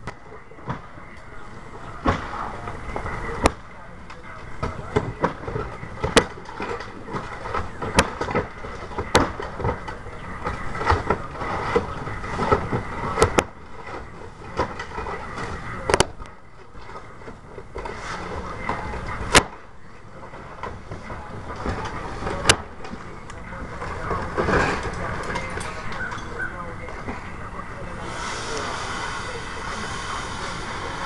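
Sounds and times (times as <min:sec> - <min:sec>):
shingles scraping and tearing: 0:00.0 - 0:31.0.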